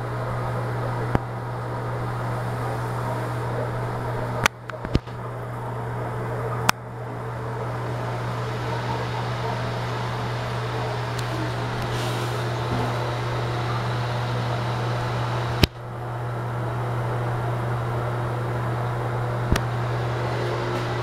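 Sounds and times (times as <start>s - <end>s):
exhaust fan humming: 0.0s - 21.0s.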